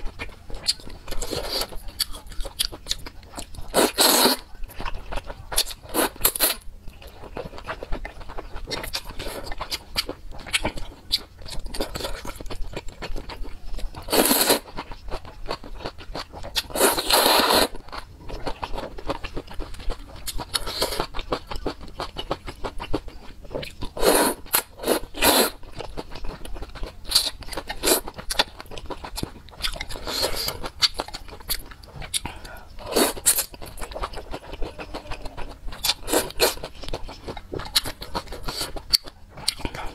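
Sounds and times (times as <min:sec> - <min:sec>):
chewing and mouth sounds: 0:00.0 - 0:39.9.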